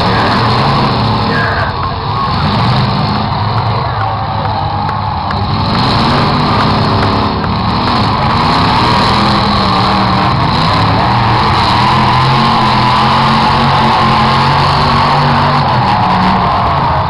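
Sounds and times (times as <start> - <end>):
car engines running hard: 0.0 - 17.0.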